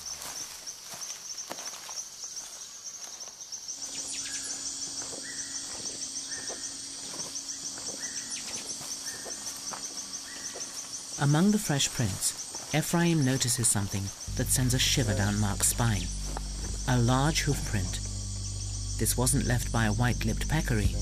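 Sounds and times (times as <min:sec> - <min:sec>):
high insect trill: 0:00.0 - 0:21.0
low steady hum: 0:04.0 - 0:21.0.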